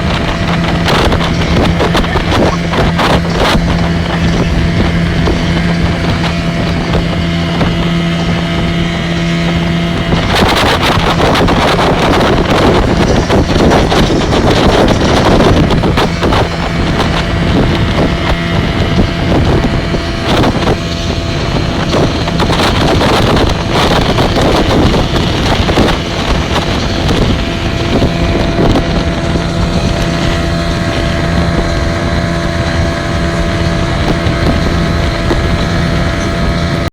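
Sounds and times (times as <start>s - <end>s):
speedboat engine drone: 0.0s - 36.9s
water rushing: 0.0s - 36.9s
water slapping against hull: 0.0s - 36.9s
wind buffeting microphone: 0.0s - 36.9s.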